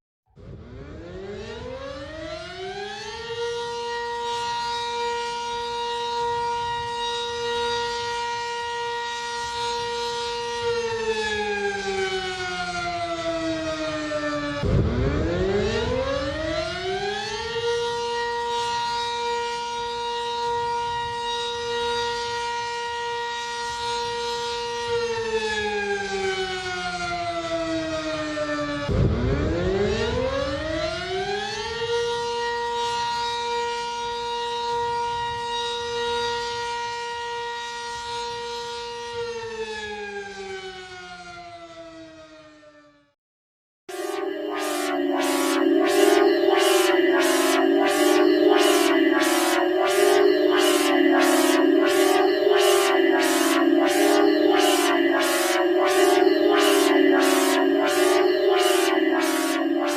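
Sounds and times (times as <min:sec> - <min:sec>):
civil defense siren: 0:00.3 - 0:43.2, 0:43.9 - 0:59.9.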